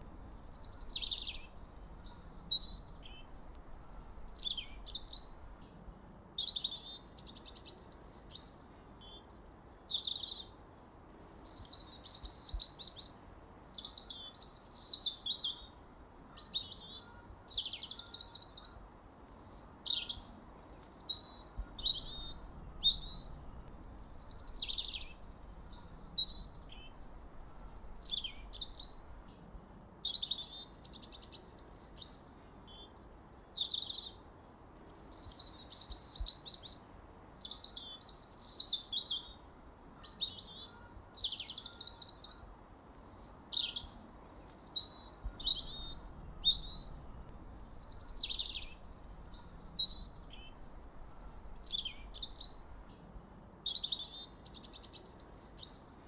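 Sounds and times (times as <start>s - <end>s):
bird chirping: 0.0s - 10.5s, 11.2s - 34.2s, 37.4s - 56.0s.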